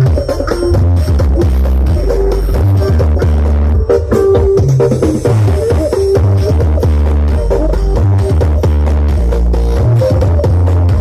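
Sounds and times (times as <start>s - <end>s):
loud dance music with bass: 0.0s - 11.0s.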